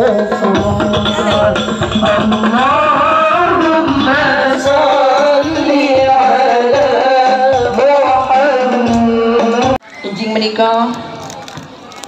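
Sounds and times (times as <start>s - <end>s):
hand-drum beats: 0.0s - 9.8s
woman singing through a loudspeaker: 0.0s - 11.0s.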